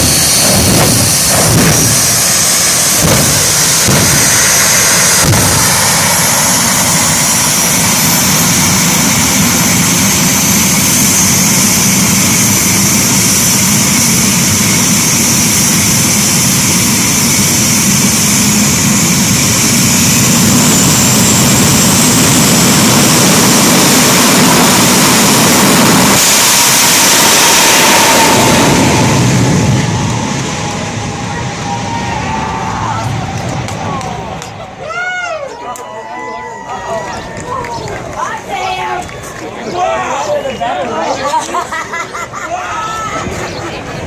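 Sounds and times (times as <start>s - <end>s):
jet turbine engines whining and roaring: 0.0s - 44.0s.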